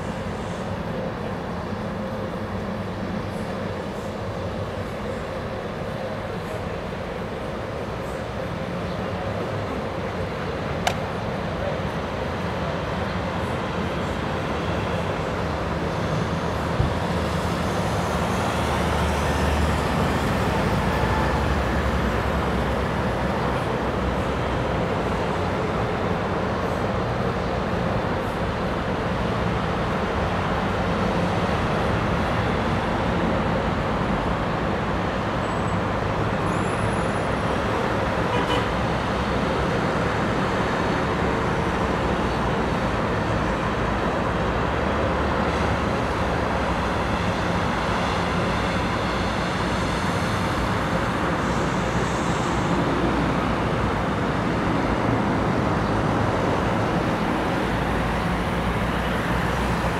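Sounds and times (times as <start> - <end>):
distant city road traffic: 0.0 - 59.9.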